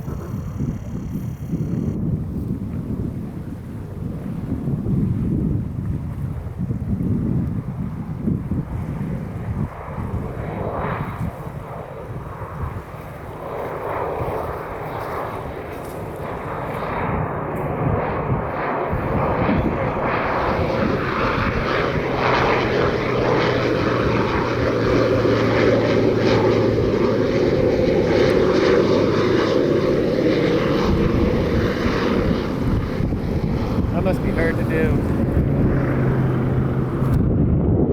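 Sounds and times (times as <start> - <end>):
propeller aircraft engine: 0.0 - 37.9.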